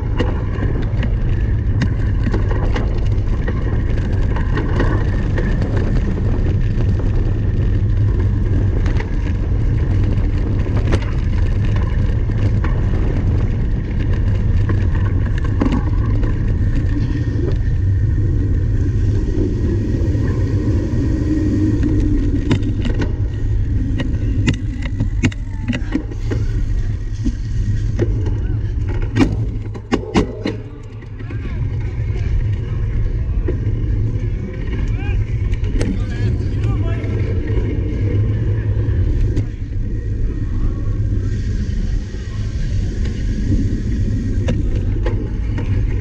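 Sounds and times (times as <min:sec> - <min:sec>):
bike clicks and rattles: 0:00.0 - 0:46.0
wind and tyres rumbling: 0:00.0 - 0:46.0.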